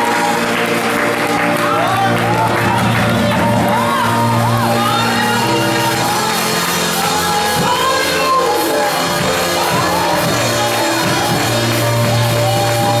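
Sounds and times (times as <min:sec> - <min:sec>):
choir singing and calling out: 0:00.0 - 0:13.0
keyboard sustained chords: 0:00.0 - 0:13.0.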